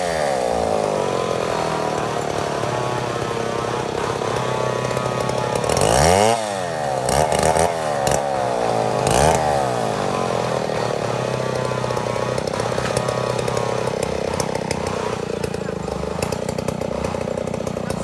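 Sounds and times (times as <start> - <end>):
chainsaw engine idling and revving: 0.0 - 18.0.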